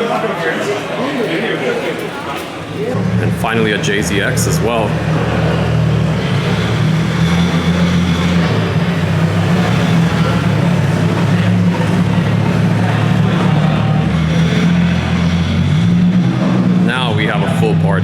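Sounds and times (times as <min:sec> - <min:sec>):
car engines running at low revs: 0:02.6 - 0:18.0.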